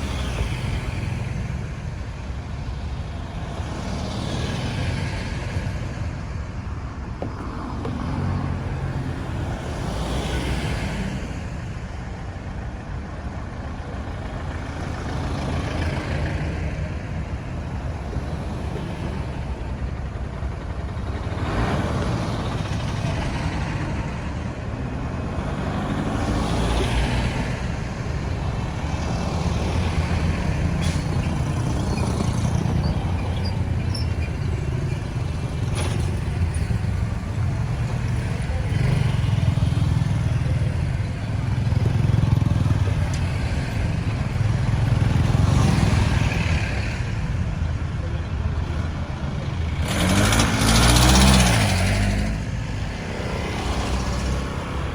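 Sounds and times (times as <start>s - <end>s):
road noise: 0.0s - 54.9s
vehicles swishing past: 0.0s - 54.9s.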